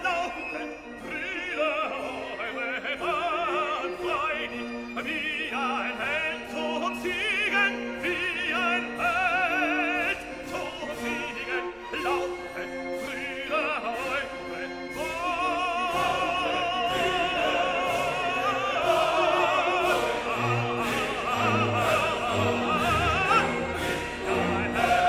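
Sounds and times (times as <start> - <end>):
operatic singing: 0.0 - 25.0
orchestral accompaniment: 0.0 - 25.0.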